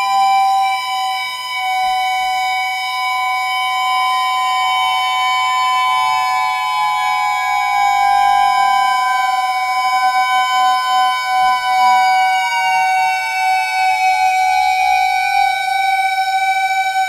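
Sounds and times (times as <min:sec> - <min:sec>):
experimental drone music: 0:00.0 - 0:17.0.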